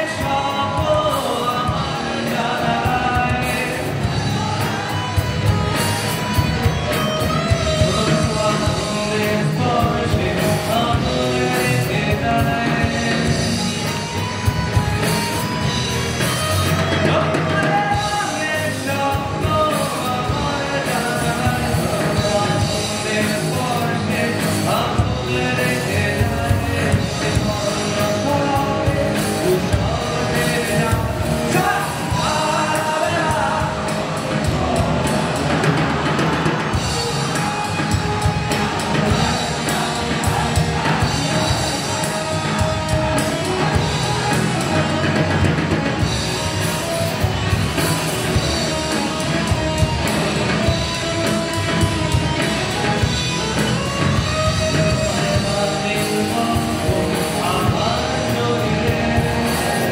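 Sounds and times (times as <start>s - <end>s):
man singing into microphone: 0.0s - 14.4s, 15.1s - 59.9s
electric guitars and bass: 0.0s - 59.9s
steady drum beat: 0.0s - 59.9s.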